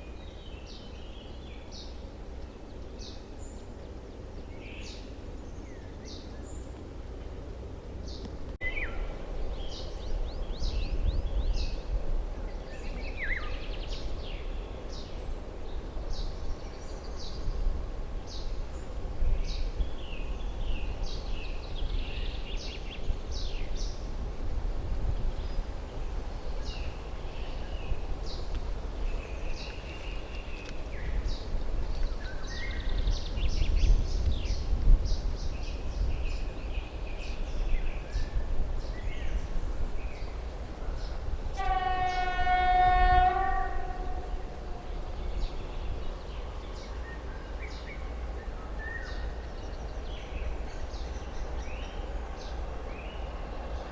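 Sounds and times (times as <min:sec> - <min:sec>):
songbirds singing: 0:08.0 - 0:17.6, 0:18.2 - 0:24.1, 0:25.2 - 0:53.9.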